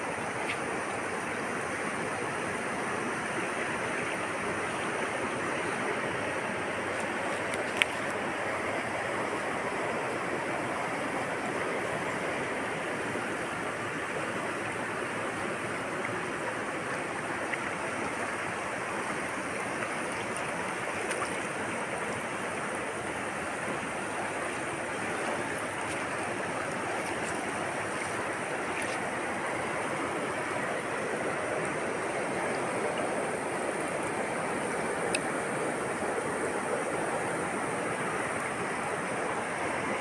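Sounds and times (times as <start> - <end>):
river rushing: 0.0 - 40.0.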